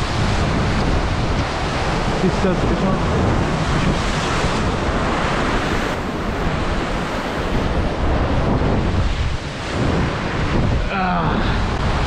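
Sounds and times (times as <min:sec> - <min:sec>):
ocean surf breaking on rocks: 0:00.0 - 0:12.0.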